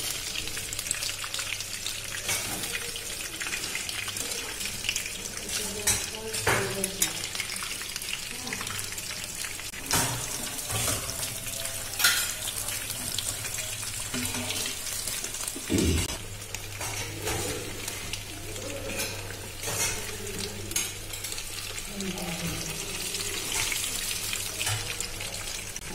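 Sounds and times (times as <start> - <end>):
oil sizzling in a wok: 0.0 - 25.9.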